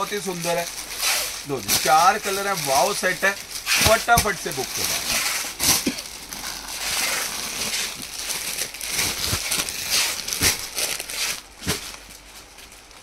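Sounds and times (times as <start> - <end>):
cloth rustling: 0.0 - 13.0
plastic packaging crinkling: 0.0 - 13.0.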